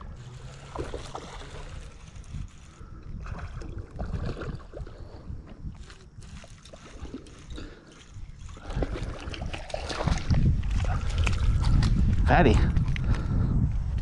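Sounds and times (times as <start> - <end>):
water gurgling and splashing: 0.0 - 11.2
wind on microphone: 0.0 - 14.0.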